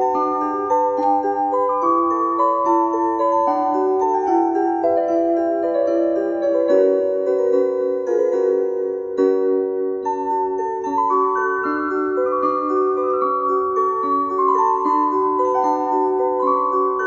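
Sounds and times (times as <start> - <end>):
electronic keyboard melody and chords: 0.0 - 17.0.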